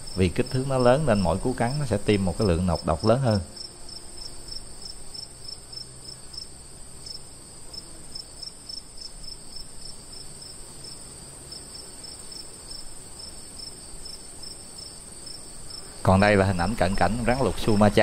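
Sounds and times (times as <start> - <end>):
insect chirping: 0.0 - 18.0
insect high-pitched trill: 0.0 - 18.0.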